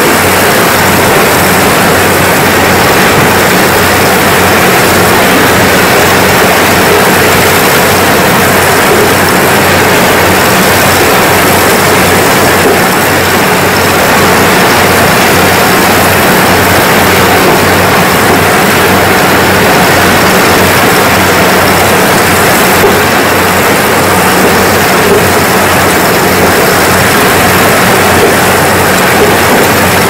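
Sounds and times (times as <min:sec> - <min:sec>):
combine harvester engine hum: 0:00.0 - 0:30.0.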